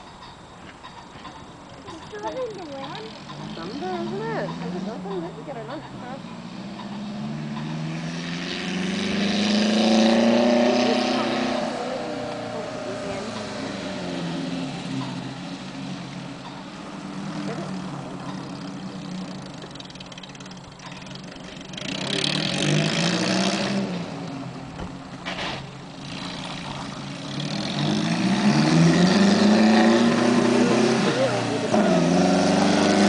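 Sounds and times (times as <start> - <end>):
car engine accelerating: 2.1 - 33.0.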